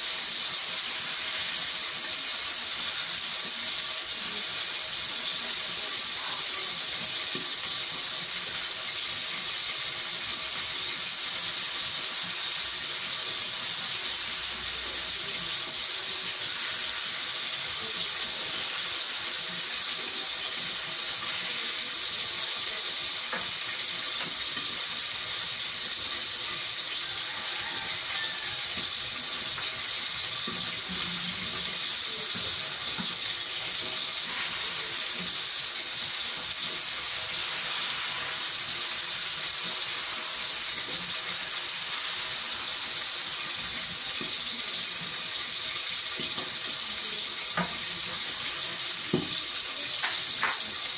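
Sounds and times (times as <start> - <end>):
vegetables sizzling in a pan: 0.0 - 50.9.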